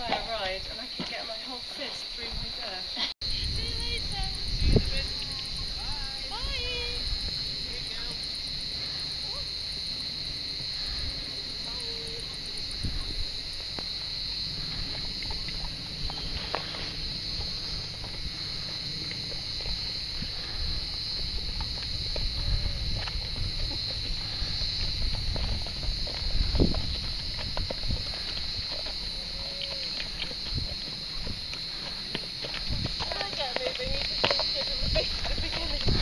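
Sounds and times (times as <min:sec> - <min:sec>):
hooves clopping on dirt: 0:00.0 - 0:36.0
insect chorus: 0:00.0 - 0:36.0.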